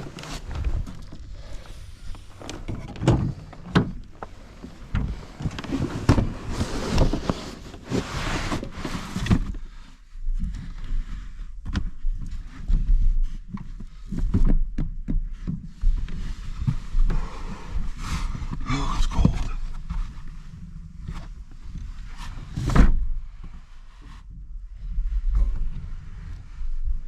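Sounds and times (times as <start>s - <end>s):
rustling and knocks of handling gear: 0.0s - 24.2s.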